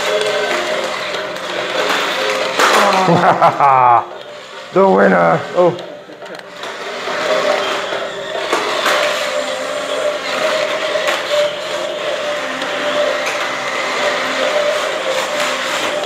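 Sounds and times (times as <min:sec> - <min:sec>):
toy gear motors whirring: 0:00.0 - 0:16.0.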